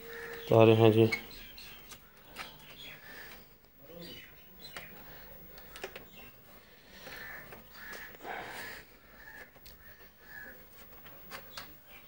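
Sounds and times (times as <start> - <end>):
harsh bird calls: 0.0 - 10.6.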